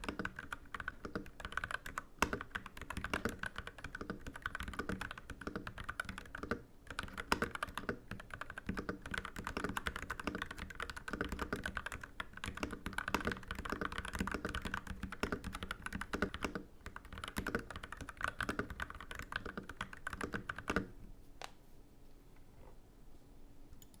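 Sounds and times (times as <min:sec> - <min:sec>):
fast mechanical keyboard typing: 0:00.0 - 0:20.9.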